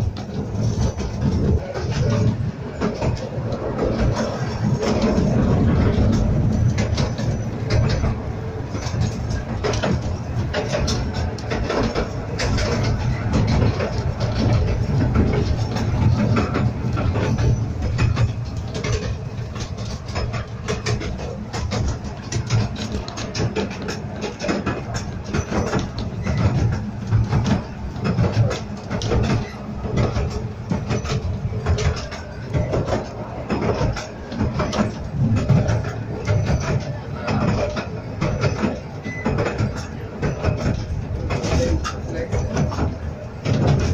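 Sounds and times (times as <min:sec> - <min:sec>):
train wheels rumbling on track: 0:00.0 - 0:43.9
wheels clicking over rails: 0:00.0 - 0:43.9.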